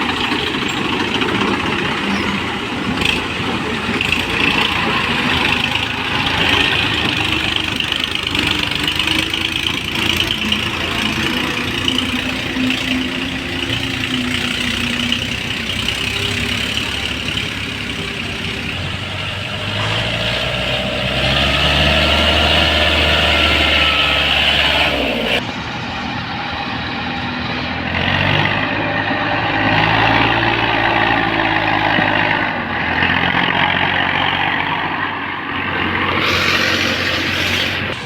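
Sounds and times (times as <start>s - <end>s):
diesel tractor engine revving: 0.0s - 38.0s.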